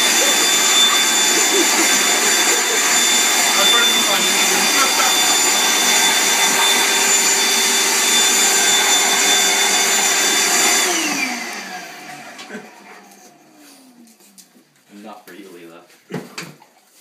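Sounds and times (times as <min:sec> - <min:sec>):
handheld vacuum cleaner whine: 0:00.0 - 0:14.5.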